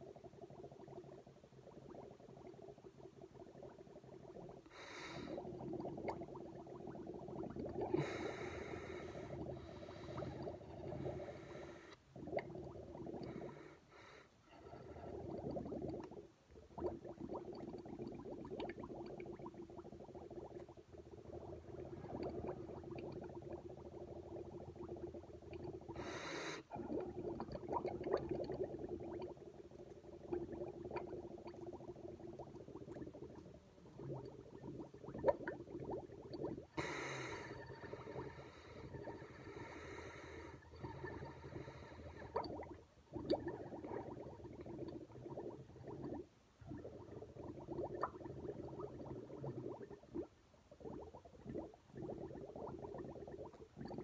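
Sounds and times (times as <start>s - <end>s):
milk bubbling through a straw: 0.0s - 13.8s, 14.5s - 54.0s.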